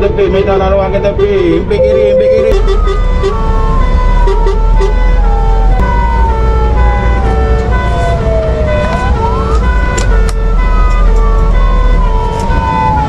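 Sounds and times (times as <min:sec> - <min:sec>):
siren wail: 0:00.0 - 0:13.0
truck rumble: 0:00.0 - 0:13.0
two-note siren: 0:01.8 - 0:13.0.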